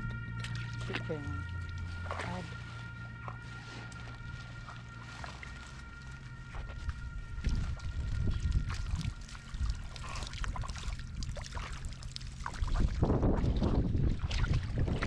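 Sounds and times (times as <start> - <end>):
heavy low rumble: 0.0 - 15.0
water splashing and sloshing: 0.0 - 15.0.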